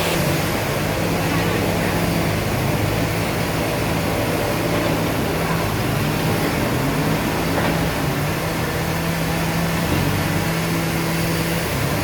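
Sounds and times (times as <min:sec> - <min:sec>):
sawmill machinery humming: 0:00.0 - 0:12.0.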